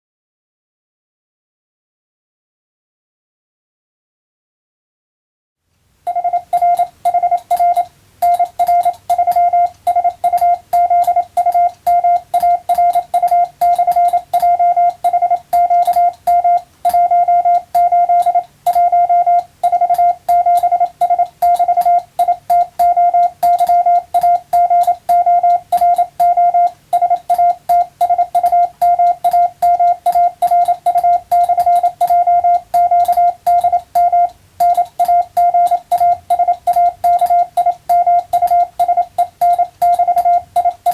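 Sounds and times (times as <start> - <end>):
keying clicks: 6.1 - 40.9
morse code tone: 6.1 - 40.9.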